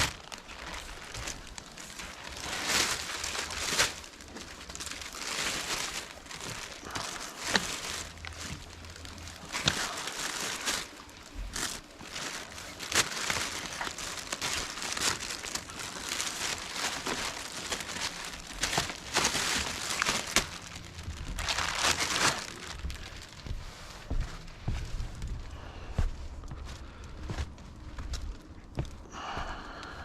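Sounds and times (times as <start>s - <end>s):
crunching and rustling: 0.0s - 30.0s.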